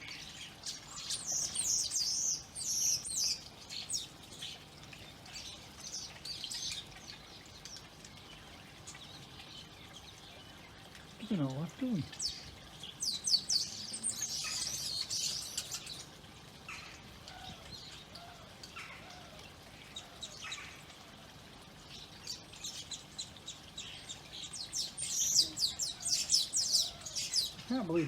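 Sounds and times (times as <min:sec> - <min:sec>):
flock of birds chirping: 0:00.0 - 0:28.0.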